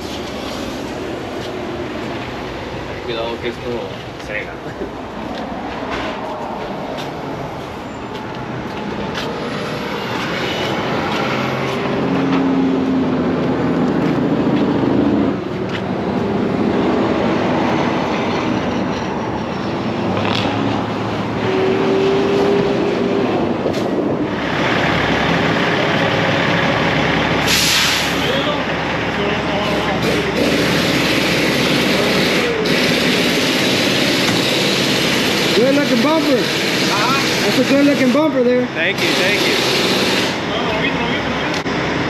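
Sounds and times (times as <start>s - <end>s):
passing traffic: 0.0s - 42.0s.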